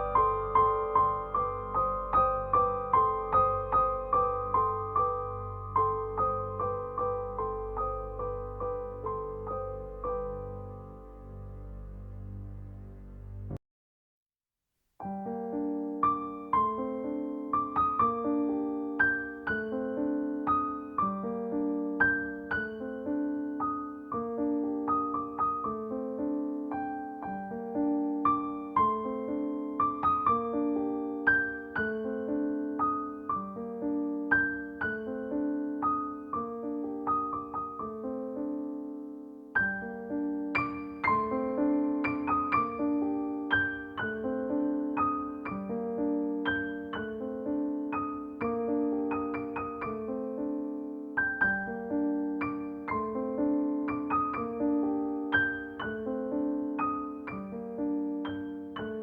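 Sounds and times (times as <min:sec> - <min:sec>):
calm piano music: 0:00.0 - 0:13.6, 0:15.0 - 0:59.0.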